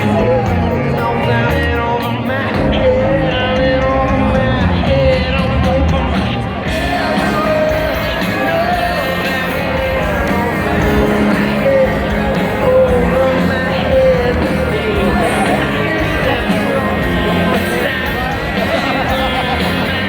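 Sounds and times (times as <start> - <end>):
live rock band playing: 0.0 - 20.0
singer holding long notes: 0.0 - 20.0.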